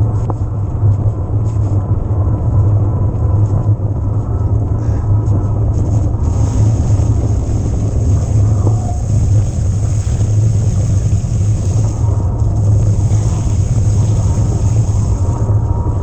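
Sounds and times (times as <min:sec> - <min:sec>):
wind and riding noise: 0:00.0 - 0:16.0.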